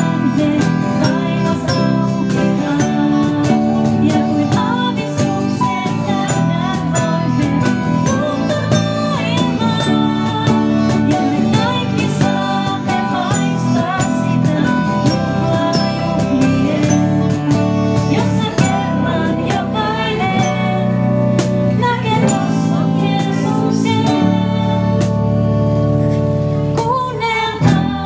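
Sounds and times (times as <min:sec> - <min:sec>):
woman singing into a microphone: 0:00.0 - 0:25.6, 0:26.6 - 0:28.0
cajon beat: 0:00.0 - 0:28.0
gospel band playing: 0:00.0 - 0:28.0.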